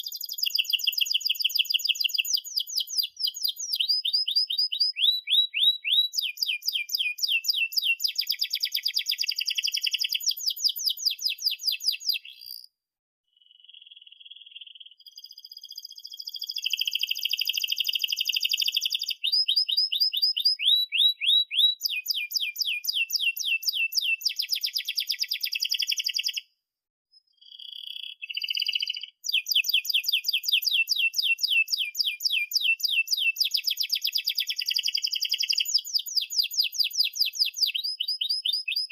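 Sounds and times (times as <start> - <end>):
canary singing: 0.0 - 12.7, 13.6 - 26.4, 27.2 - 38.9.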